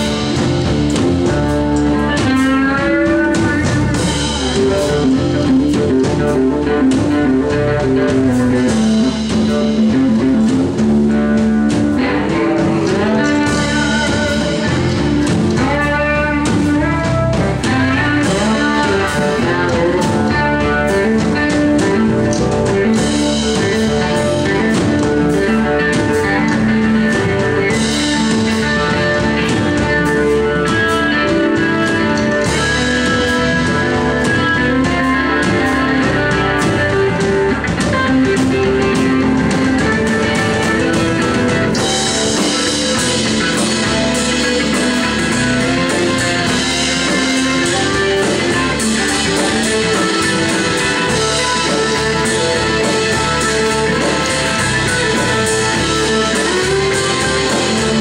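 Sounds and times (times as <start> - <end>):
electric guitar: 0.0 - 58.0
live blues band playing: 0.0 - 58.0.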